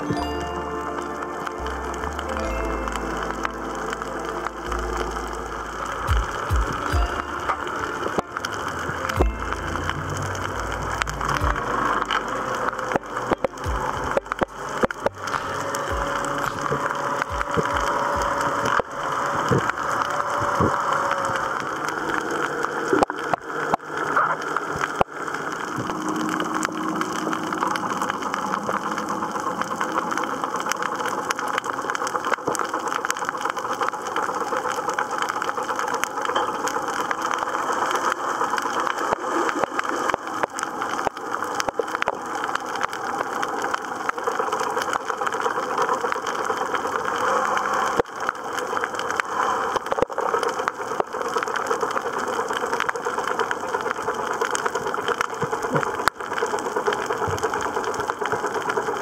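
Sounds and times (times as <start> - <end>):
underwater clicks crackling: 0.9 - 59.0.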